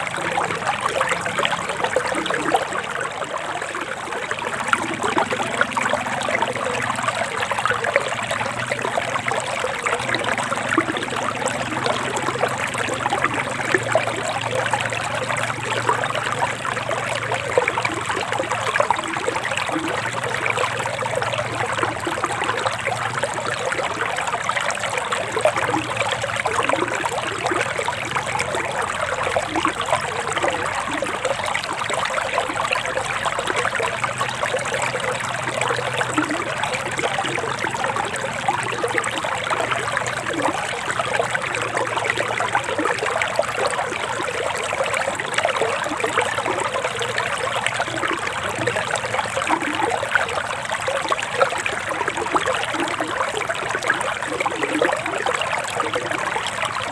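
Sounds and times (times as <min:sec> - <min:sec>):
stream babbling: 0:00.0 - 0:56.9.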